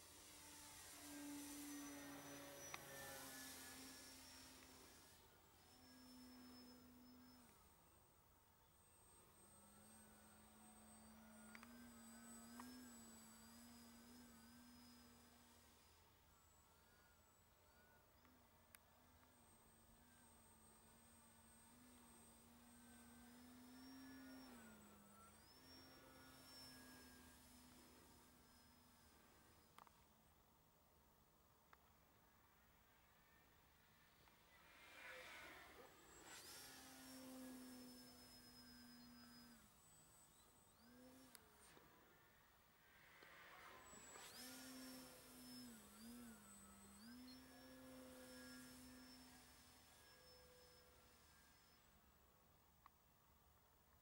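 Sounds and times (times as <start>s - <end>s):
electric motor and propeller whine: 0.0s - 30.8s, 32.1s - 52.3s.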